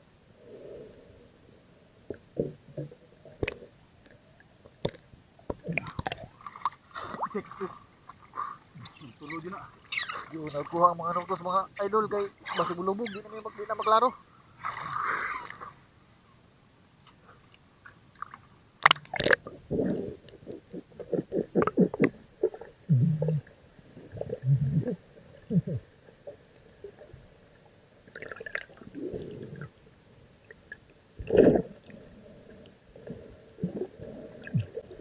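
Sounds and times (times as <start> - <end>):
underwater sloshing and bubbling: 0.0 - 35.0.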